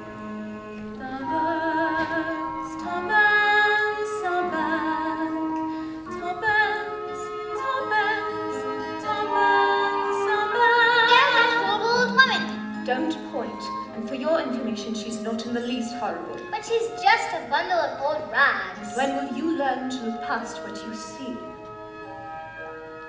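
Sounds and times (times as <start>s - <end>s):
slow gentle music with held chords: 0.0s - 23.0s.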